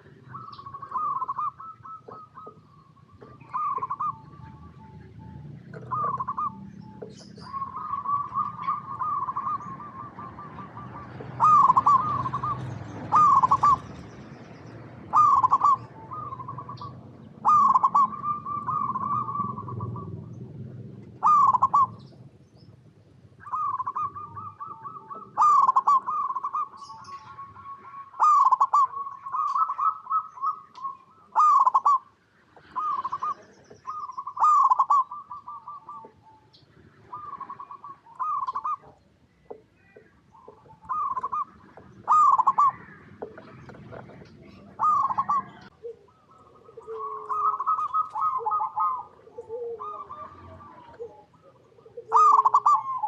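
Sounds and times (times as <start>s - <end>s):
dove trilled cooing: 0.0s - 53.0s.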